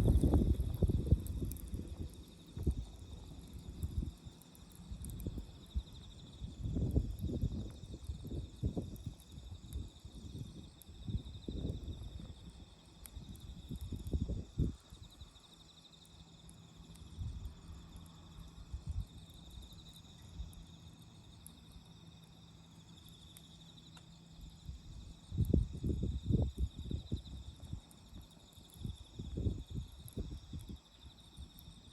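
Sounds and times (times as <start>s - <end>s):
faint crackles: 0.0s - 25.8s
crickets trilling: 0.0s - 31.9s.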